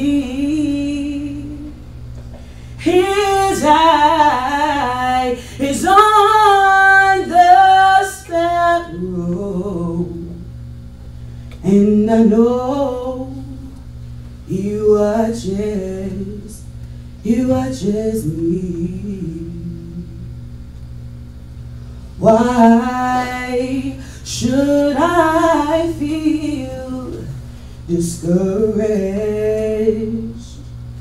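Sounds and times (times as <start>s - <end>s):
woman singing gospel: 0.0s - 1.8s, 2.7s - 10.5s, 11.6s - 13.8s, 14.5s - 20.4s, 22.2s - 30.8s
steady low hum: 0.0s - 31.0s.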